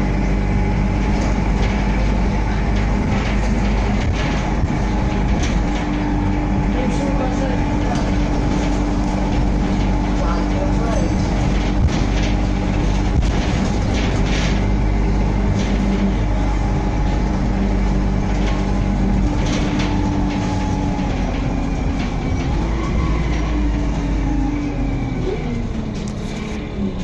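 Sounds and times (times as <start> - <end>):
bus engine droning: 0.0 - 27.0
rattles and clicks from bus body: 0.0 - 27.0
road noise: 0.0 - 27.0.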